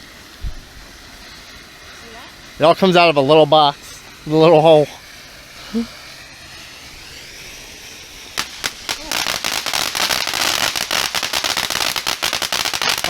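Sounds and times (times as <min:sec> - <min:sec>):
firework crackling pops: 0:00.0 - 0:13.0.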